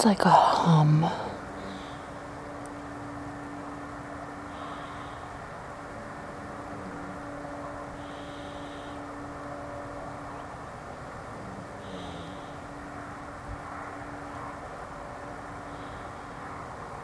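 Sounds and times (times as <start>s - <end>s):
loud steady idling hum: 0.0s - 17.0s.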